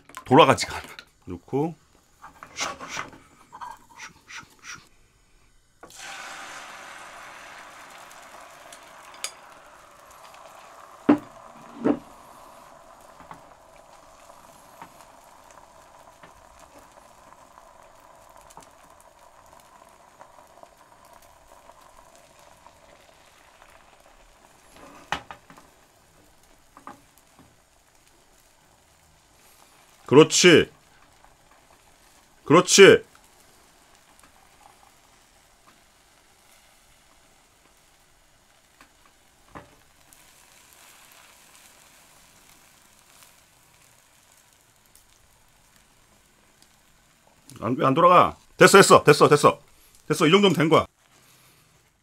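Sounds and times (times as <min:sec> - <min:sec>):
egg sizzling in hot oil: 0:00.0 - 0:52.0.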